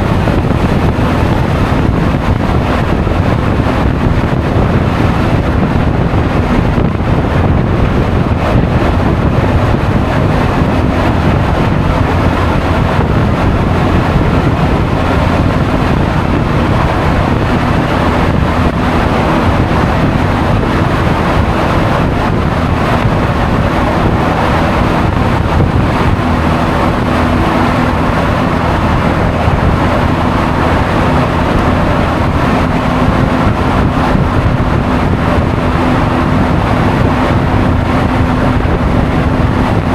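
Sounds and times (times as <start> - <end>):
road noise: 0.0 - 39.9
scooter engine: 0.0 - 39.9
wind on camera microphone: 0.0 - 39.9.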